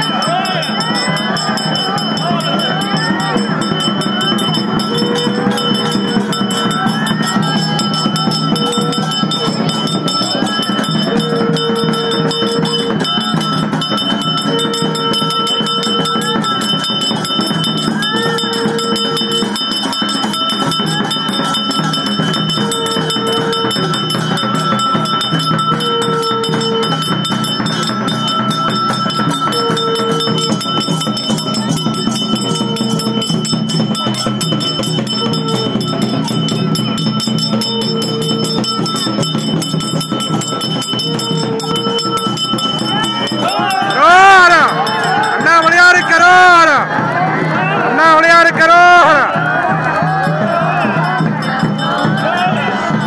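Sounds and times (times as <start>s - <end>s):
bell ringing: 0.0s - 53.0s
murmur of crowd voices: 0.0s - 53.0s.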